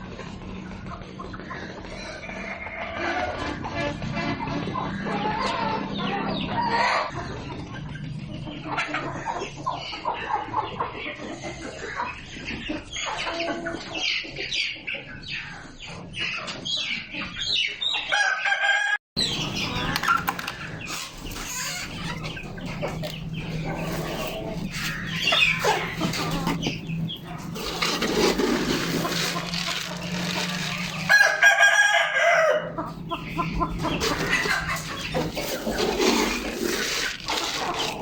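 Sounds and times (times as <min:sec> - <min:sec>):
birds squawking and clucking: 0:00.0 - 0:38.0.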